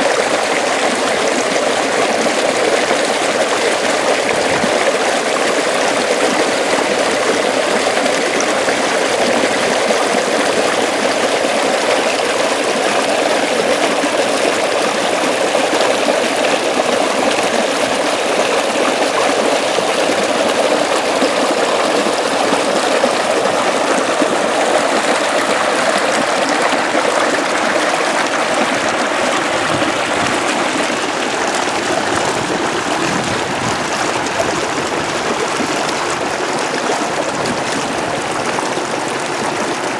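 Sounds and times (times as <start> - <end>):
water flowing in a ditch: 0.0 - 39.9.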